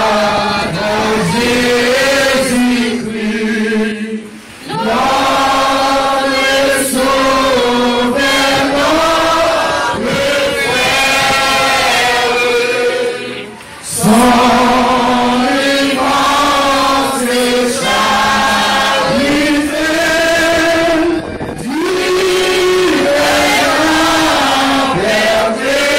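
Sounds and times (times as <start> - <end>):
group singing long notes: 0.0 - 25.9.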